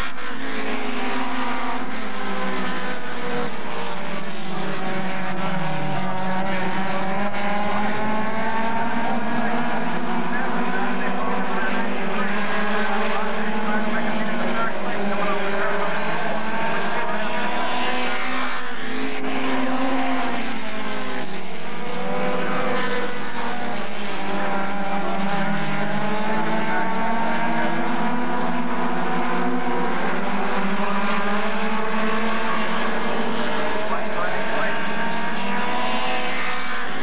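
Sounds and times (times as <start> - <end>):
race car engines at speed: 0.0 - 37.0.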